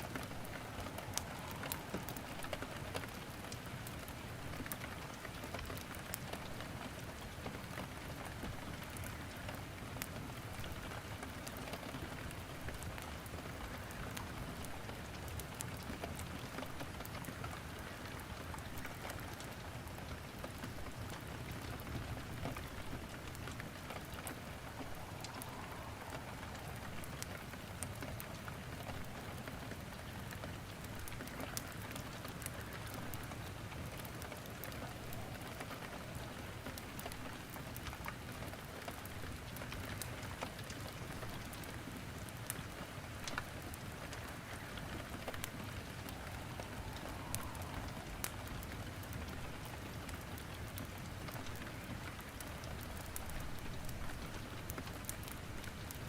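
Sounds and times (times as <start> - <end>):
steady rain falling: 0.0 - 56.0
wood crackling in fireplace: 0.0 - 56.0.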